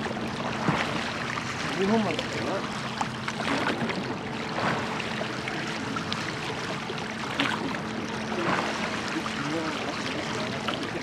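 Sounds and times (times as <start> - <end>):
oar splashes: 0.0 - 11.0
water rushing and splashing: 0.0 - 11.0.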